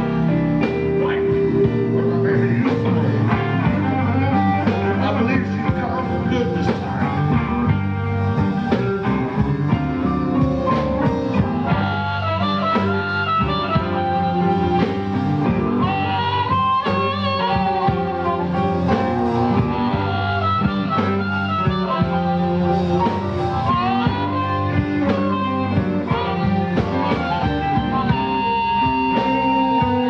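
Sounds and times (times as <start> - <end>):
bending electric guitar lead: 0.0 - 30.0
blues-rock band playing: 0.0 - 30.0.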